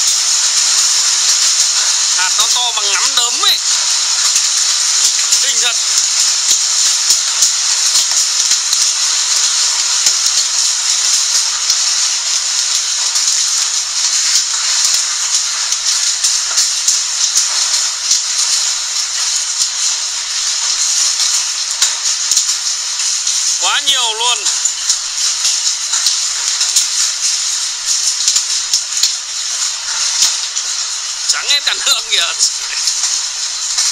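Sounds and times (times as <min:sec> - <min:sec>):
hailstones clicking: 0:00.0 - 0:33.9
heavy rain hissing: 0:00.0 - 0:33.9.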